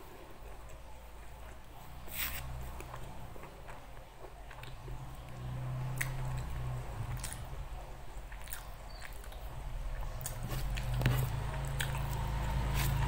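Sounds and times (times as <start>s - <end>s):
chewing and wet mouth sounds: 0.1s - 13.0s.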